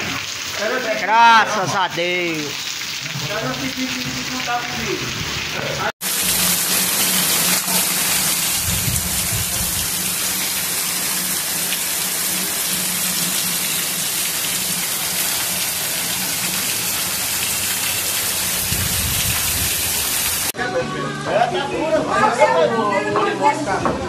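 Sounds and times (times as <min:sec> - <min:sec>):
heavy rain on pavement: 0:00.0 - 0:20.6.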